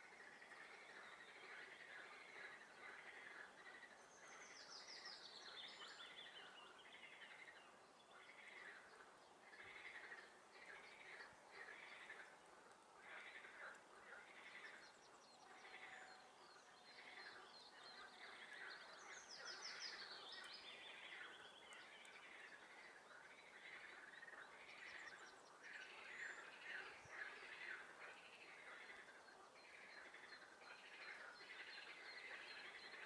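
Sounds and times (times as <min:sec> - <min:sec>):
songbirds singing: 0:00.1 - 0:33.0.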